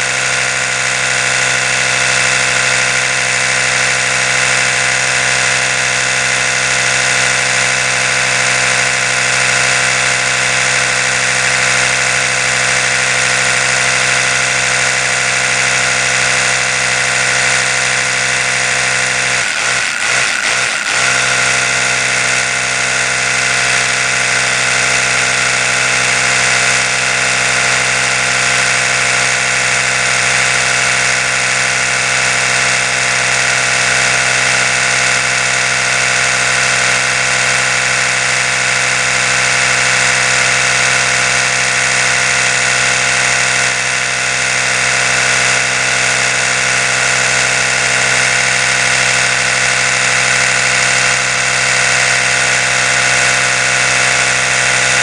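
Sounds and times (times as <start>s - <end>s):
electric toothbrush buzzing: 0.0s - 55.0s.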